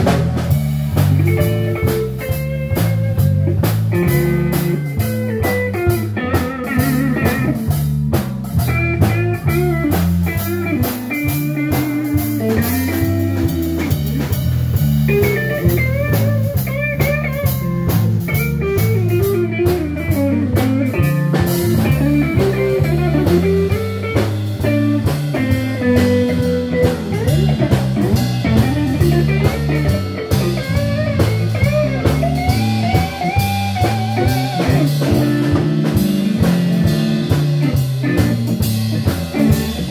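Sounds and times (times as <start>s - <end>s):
bass line: 0.0s - 39.9s
blues band playing: 0.0s - 39.9s
electric guitar lead bent notes: 0.0s - 39.9s
steady drum beat: 0.0s - 39.9s.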